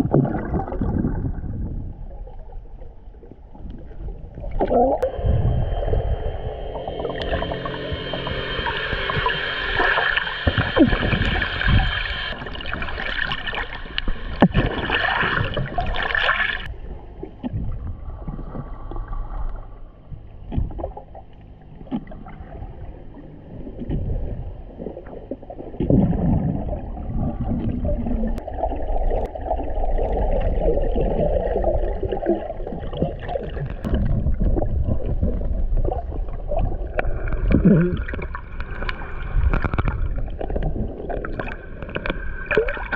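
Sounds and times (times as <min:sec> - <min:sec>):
underwater water swishing: 0:00.0 - 0:42.9.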